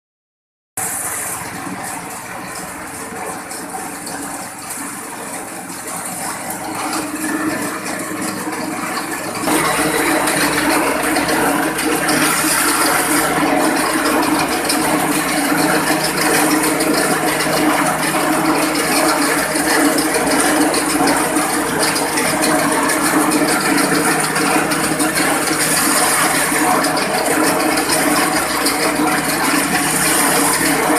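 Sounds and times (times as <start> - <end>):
grass chopper machine rattling: 0.8 - 30.9.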